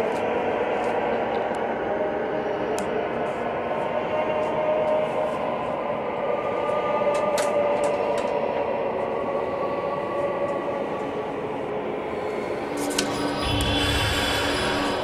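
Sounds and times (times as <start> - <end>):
eerie ambient drone: 0.0 - 15.0.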